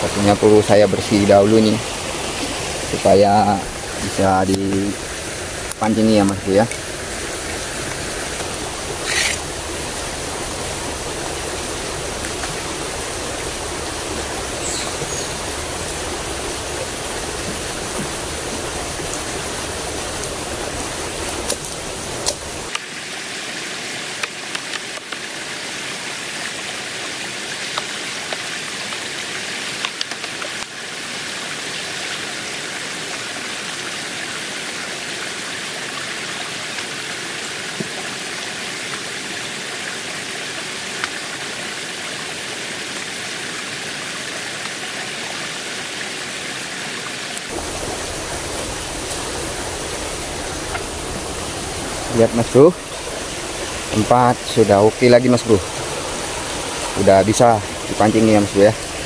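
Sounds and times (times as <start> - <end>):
water rushing in a ditch: 0.0 - 59.0.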